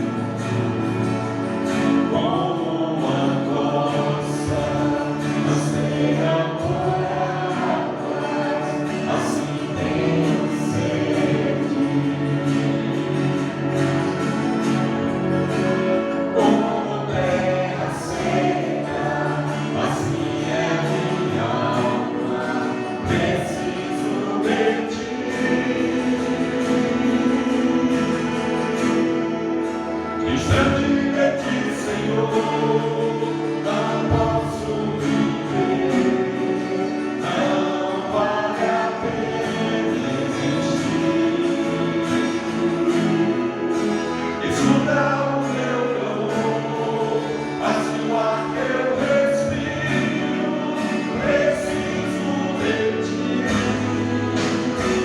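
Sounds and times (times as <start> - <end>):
instrumental accompaniment: 0.0 - 55.0
voices singing worship song: 0.0 - 55.0.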